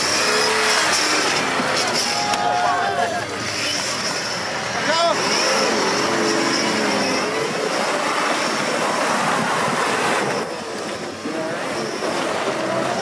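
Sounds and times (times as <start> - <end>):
loud rushing noise: 0.0 - 13.0
off-road vehicle engine: 0.0 - 13.0.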